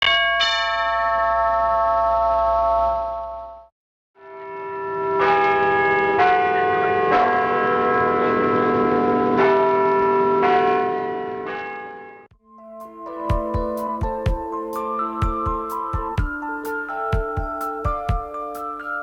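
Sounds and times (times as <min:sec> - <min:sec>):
church bells ringing: 0:00.0 - 0:03.4, 0:04.2 - 0:19.0.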